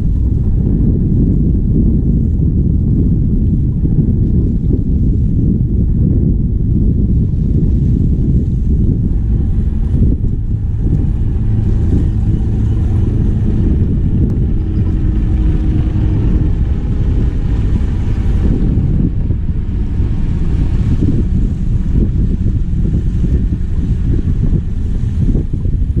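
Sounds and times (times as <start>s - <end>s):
faint hum: 0.0s - 26.0s
wind buffeting microphone: 0.0s - 26.0s.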